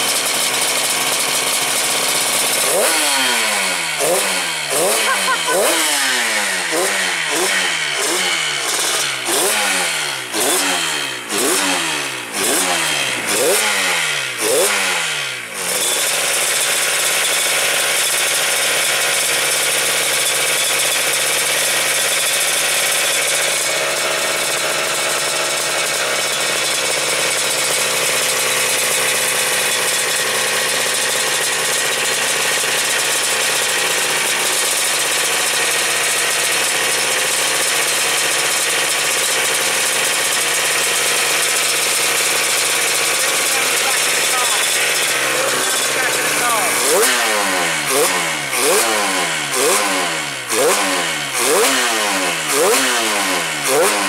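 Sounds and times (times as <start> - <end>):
engine idling: 0.0 - 54.0
two-stroke engine revving: 0.0 - 54.0.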